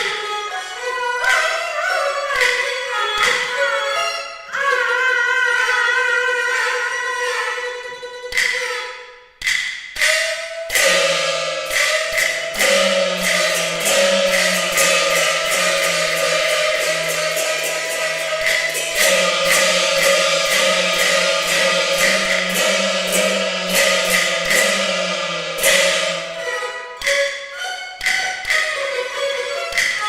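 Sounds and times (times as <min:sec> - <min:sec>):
rapid sharp percussion strikes: 0:00.0 - 0:04.2, 0:06.5 - 0:30.0
bowed string accompaniment: 0:00.0 - 0:30.0.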